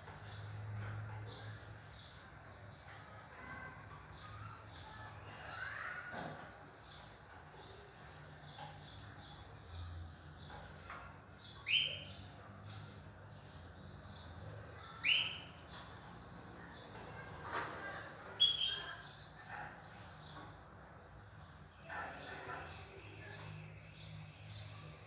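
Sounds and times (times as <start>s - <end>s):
canaries chirping: 0.2s - 6.2s, 6.9s - 25.0s.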